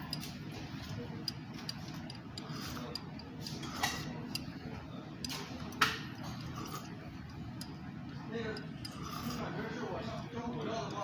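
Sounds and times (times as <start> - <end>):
restaurant background hum: 0.0 - 11.0.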